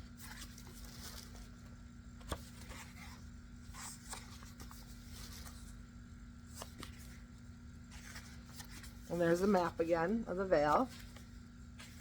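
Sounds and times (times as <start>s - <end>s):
book pages rustling: 0.0s - 12.0s.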